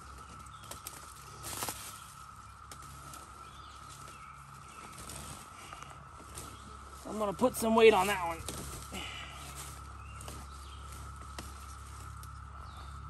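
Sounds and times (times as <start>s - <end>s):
rustling of cord and plants: 0.0s - 13.0s
steady high-pitched tone: 0.0s - 13.0s.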